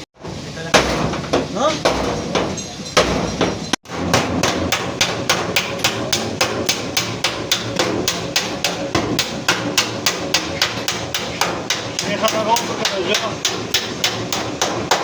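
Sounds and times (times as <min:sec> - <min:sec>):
hammer blows on sheet metal: 0:00.2 - 0:15.0.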